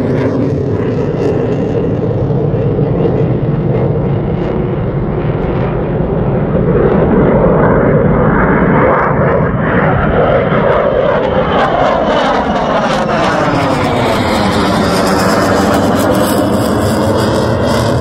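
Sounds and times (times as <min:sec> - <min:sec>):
fighter jet flying over: 0:00.0 - 0:18.0.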